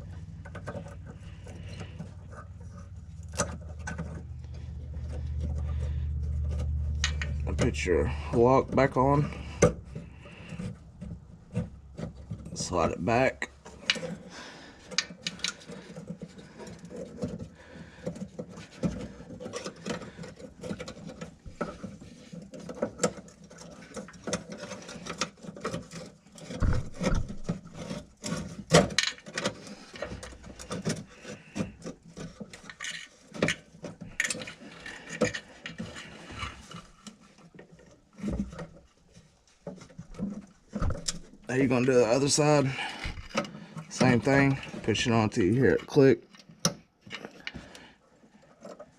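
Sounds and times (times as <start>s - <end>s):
tools clicking and scraping: 0.0s - 48.9s.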